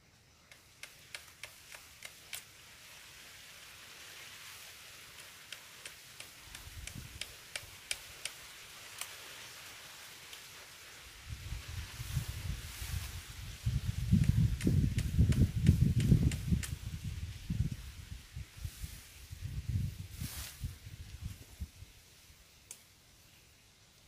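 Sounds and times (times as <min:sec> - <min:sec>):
leaves rustling: 0:00.0 - 0:24.0.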